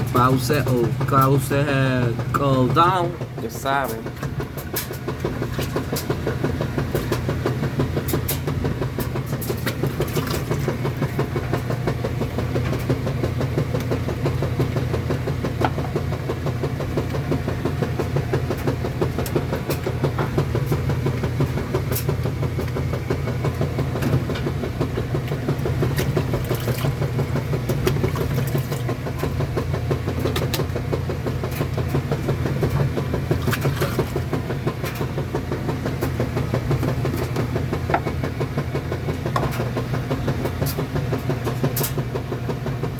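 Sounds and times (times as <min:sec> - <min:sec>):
washing machine spinning hum: 0:00.0 - 0:42.9.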